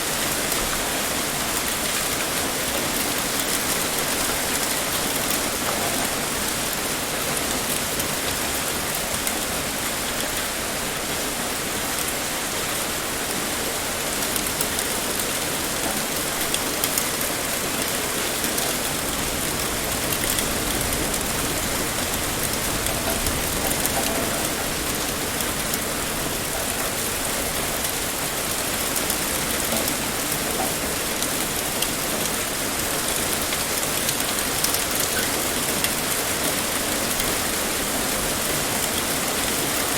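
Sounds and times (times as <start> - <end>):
heavy rain pouring: 0.0 - 39.9
raindrops pattering on a surface: 0.0 - 39.9.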